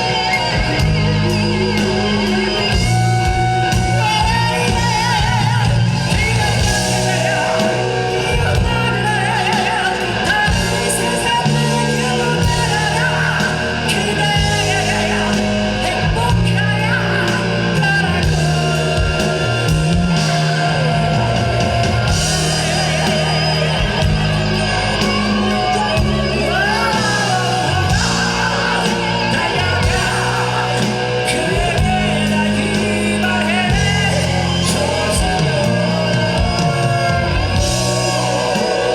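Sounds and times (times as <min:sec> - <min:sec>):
high wailing vocals: 0:00.0 - 0:38.9
live rock band playing: 0:00.0 - 0:38.9.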